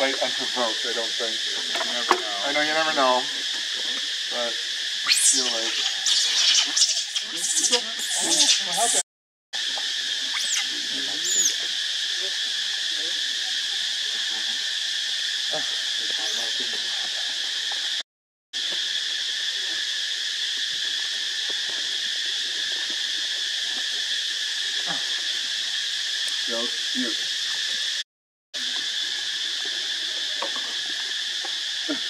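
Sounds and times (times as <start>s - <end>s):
insects droning: 0.0s - 9.0s, 9.6s - 18.0s, 18.6s - 28.0s, 28.6s - 32.0s.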